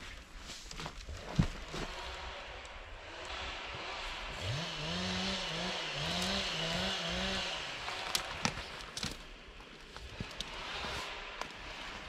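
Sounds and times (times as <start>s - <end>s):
chainsaw cutting wood: 1.2s - 12.0s.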